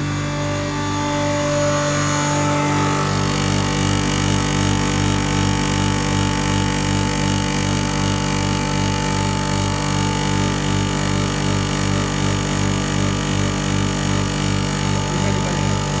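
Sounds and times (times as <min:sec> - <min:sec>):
grinder machine humming: 0:00.0 - 0:16.0.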